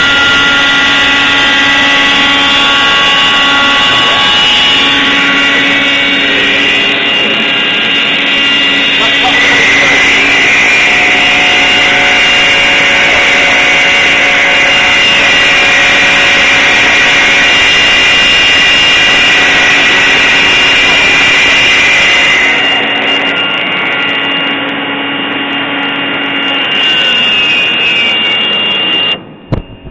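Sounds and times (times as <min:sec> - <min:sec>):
machine whine: 0:00.0 - 0:29.9.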